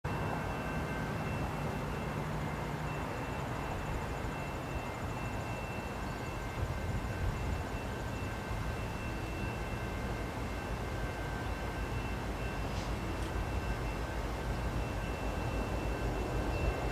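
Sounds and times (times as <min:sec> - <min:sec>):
distant diesel locomotives rumbling: 0:00.0 - 0:16.9.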